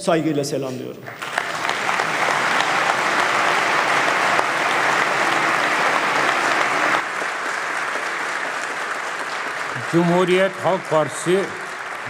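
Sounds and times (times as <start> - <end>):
crowd applauding: 1.1 - 12.0.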